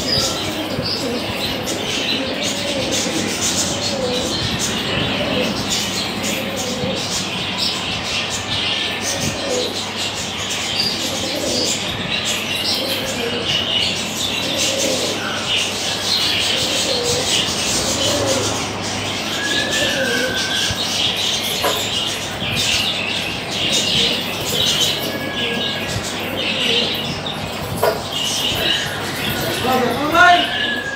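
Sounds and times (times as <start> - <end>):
pigeons cooing: 0.0 - 30.9
steady background noise: 0.0 - 30.9.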